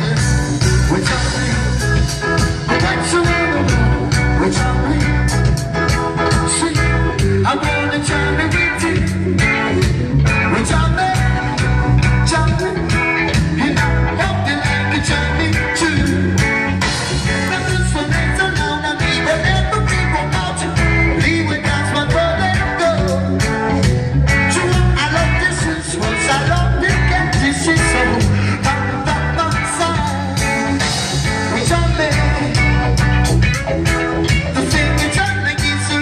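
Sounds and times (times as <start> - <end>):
drums steady beat: 0.0 - 36.0
live rock band: 0.0 - 36.0
vocals: 0.0 - 36.0.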